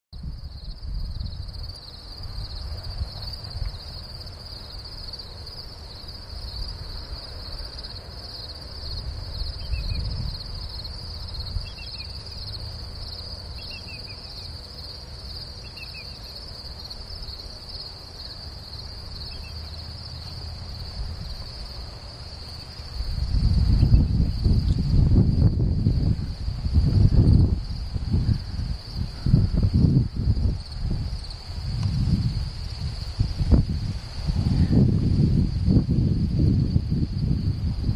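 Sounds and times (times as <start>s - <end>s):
crickets trilling: 0.2s - 37.9s.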